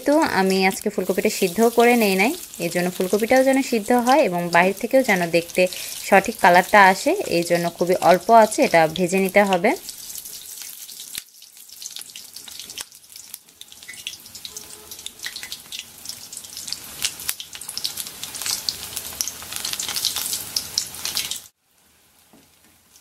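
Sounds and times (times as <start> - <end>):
deep-frying in oil sizzling: 0.0 - 23.0.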